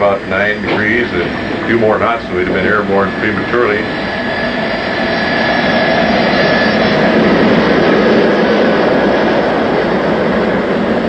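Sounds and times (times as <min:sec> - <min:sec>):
faint high whine: 0:00.0 - 0:11.0
jet engine roar: 0:00.0 - 0:11.0.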